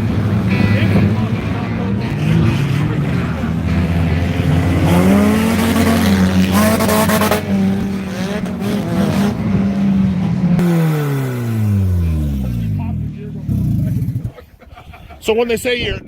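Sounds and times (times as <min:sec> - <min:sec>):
stock car engines revving: 0:00.0 - 0:14.5.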